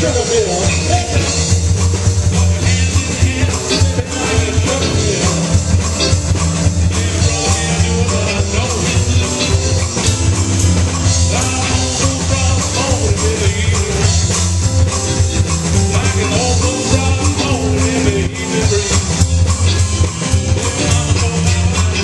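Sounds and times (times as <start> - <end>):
heavy bass line: 0.0 - 22.0
live blues band playing: 0.0 - 22.0.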